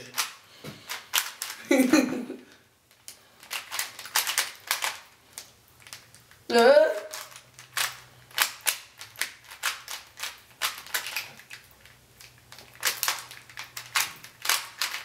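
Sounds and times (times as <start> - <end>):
plastic puzzle cube clicking: 0.1 - 1.6, 3.4 - 6.4, 7.0 - 15.0.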